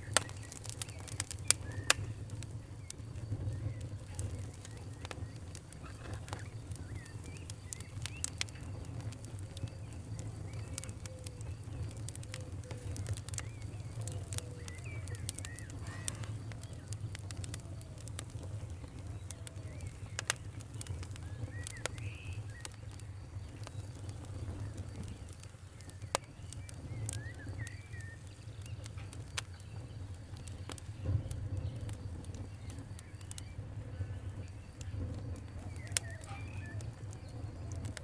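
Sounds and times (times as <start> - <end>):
faint chirping: 0.0 - 38.0
wood fire crackling: 0.0 - 38.0.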